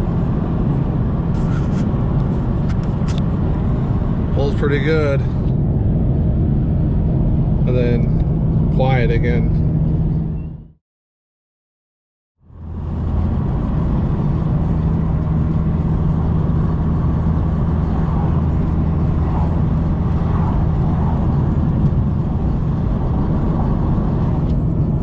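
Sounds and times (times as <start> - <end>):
tyre and road noise: 0.0 - 10.6, 12.4 - 25.0
low exhaust hum: 0.0 - 10.7, 12.4 - 25.0.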